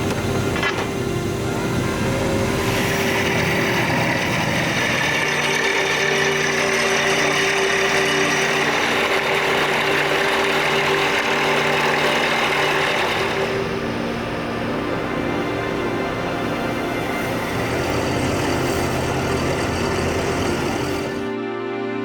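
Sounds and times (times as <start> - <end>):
drilling rig droning: 0.0 - 21.4.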